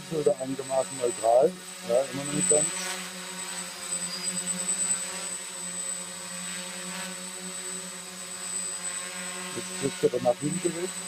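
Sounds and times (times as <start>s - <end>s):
drone buzzing: 0.0s - 11.0s.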